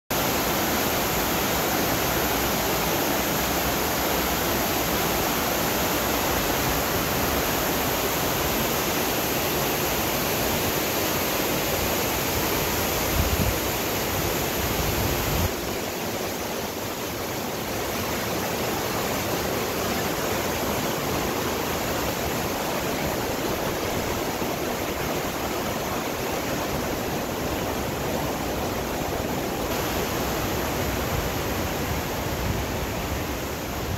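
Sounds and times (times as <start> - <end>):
creek rushing over rocks: 0.1 - 33.9.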